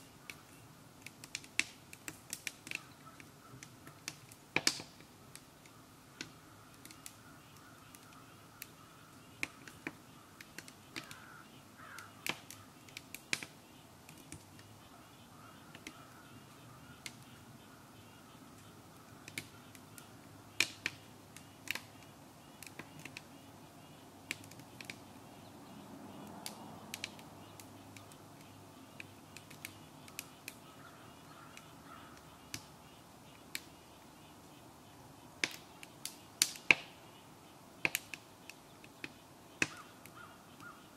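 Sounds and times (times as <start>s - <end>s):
faint steady background noise: 0.0s - 40.9s
wood fire crackling: 0.0s - 40.9s.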